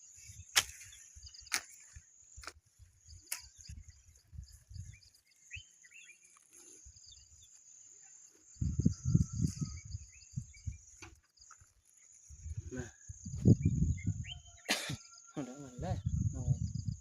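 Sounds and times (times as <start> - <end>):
insects chirring: 0.0 - 17.0
bird chirps: 0.2 - 17.0.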